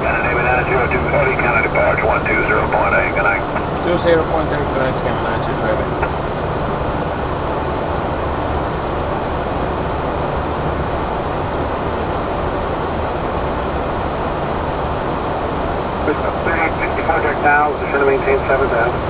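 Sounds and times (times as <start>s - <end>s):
aircraft engine hum: 0.0s - 19.0s.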